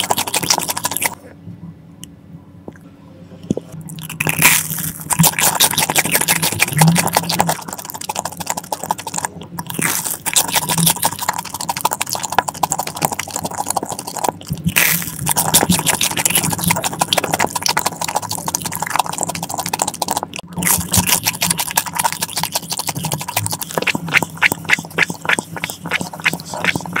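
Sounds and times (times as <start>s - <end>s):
wet crackly chewing: 0.0s - 1.2s, 3.8s - 27.0s
sucking on a straw: 4.2s - 27.0s.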